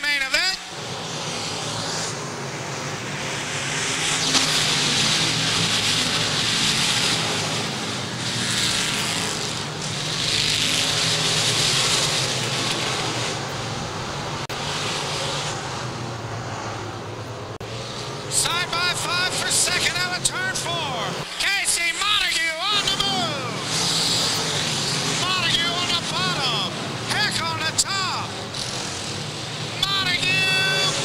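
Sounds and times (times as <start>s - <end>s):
race car engines at speed: 0.0s - 31.0s.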